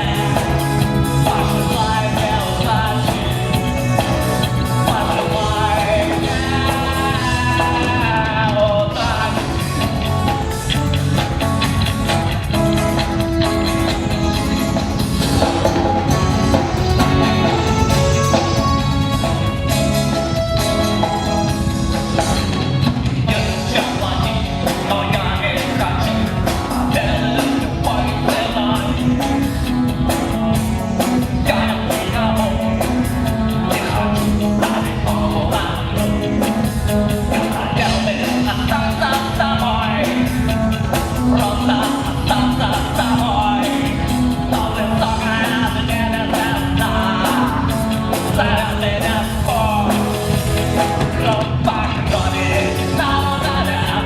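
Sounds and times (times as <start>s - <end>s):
drum kit: 0.0s - 54.0s
guitar: 0.0s - 54.0s
person singing: 0.0s - 54.0s.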